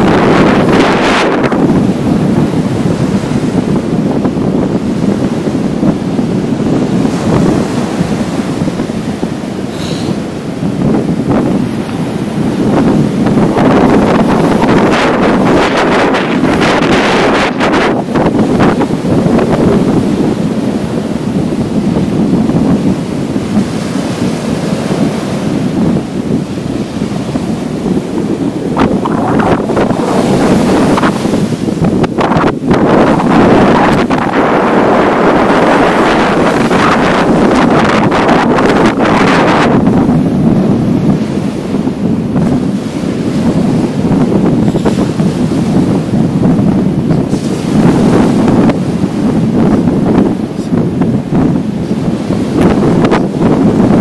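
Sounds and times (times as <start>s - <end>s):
waves washing on sandy shore: 0.0s - 54.0s
wind buffeting microphone: 0.0s - 54.0s.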